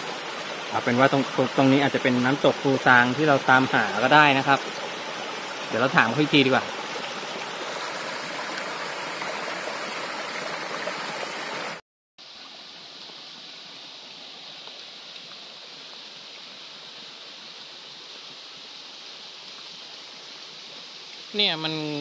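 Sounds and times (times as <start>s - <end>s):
waterfall splashing over rocks: 0.0s - 22.0s.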